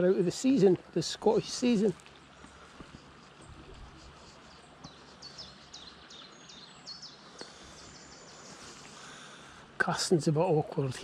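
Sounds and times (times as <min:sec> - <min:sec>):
shallow stream running: 0:00.0 - 0:11.0.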